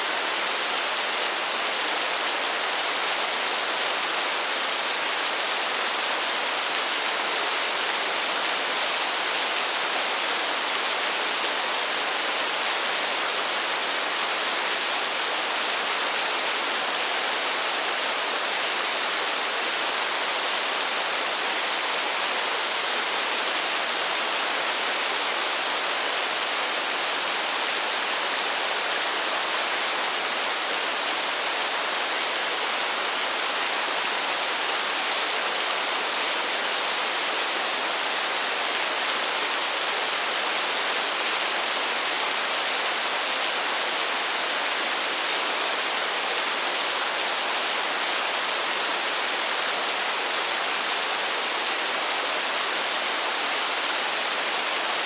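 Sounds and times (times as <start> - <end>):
heavy rain in forest: 0.0 - 55.0.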